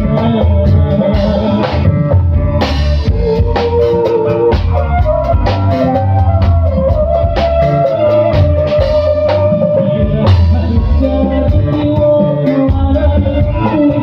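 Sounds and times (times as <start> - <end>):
live band playing instrumental: 0.0 - 14.0.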